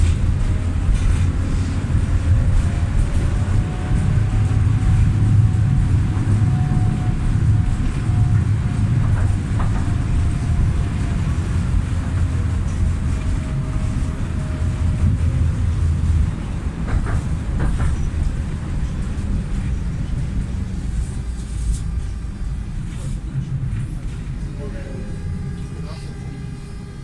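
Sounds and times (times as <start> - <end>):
tram drive whine: 0.0 - 27.0
tram wheels rumbling: 0.0 - 27.0.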